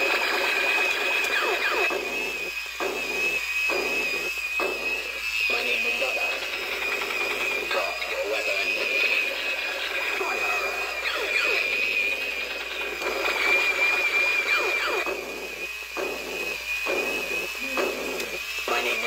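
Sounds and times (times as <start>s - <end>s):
toy robot electronic warbling: 0.0s - 19.0s.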